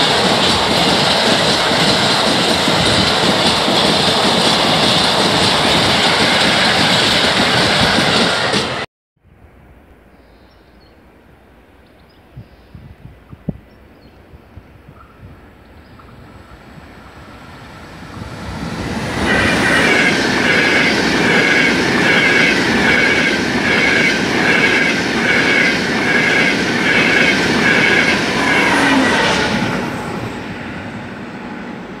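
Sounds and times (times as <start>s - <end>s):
wheels ringing on rails: 0.0s - 8.8s, 14.9s - 32.0s
high-speed train passing: 0.0s - 10.1s, 13.0s - 32.0s.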